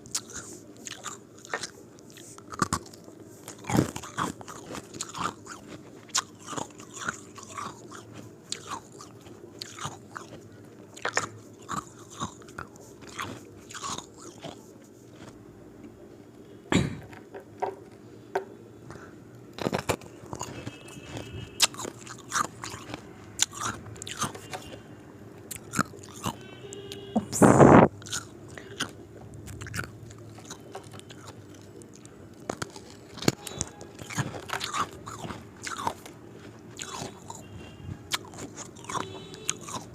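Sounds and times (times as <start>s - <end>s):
faint steady hum: 0.0s - 39.9s
person crunching ice cubes: 0.1s - 15.4s, 19.6s - 24.7s, 25.5s - 26.4s, 28.0s - 28.9s, 29.5s - 37.5s, 38.1s - 39.9s.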